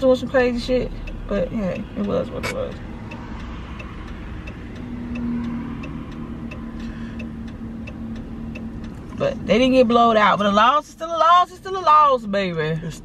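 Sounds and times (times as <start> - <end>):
car road noise: 0.0 - 13.0
turn signal ticking: 0.0 - 13.0.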